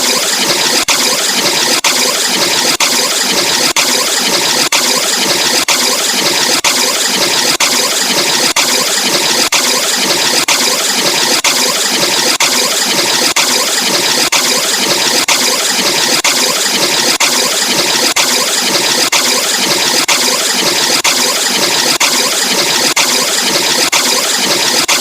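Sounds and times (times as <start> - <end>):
distorted vocoded grating noise: 0.0 - 25.0.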